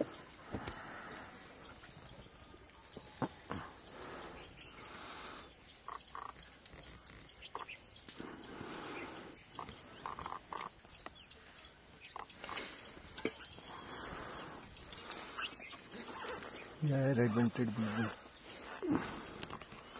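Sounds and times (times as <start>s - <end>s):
low chattering bird calls: 0.0s - 19.9s.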